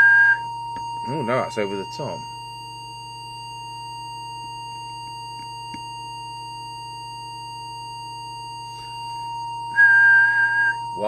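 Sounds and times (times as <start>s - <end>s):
low hum: 0.0s - 11.0s
steady test tone: 0.0s - 11.0s.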